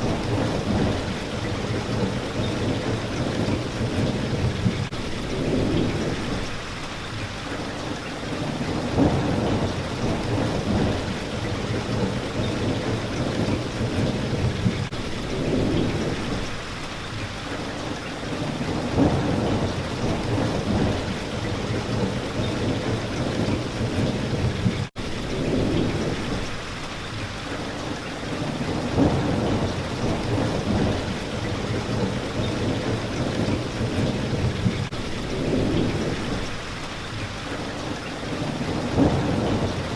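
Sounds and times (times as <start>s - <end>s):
rolling thunder rumbles: 0.0s - 7.0s, 8.2s - 16.9s, 18.3s - 27.0s, 28.3s - 37.2s, 38.2s - 39.9s
steady rain: 0.0s - 39.9s.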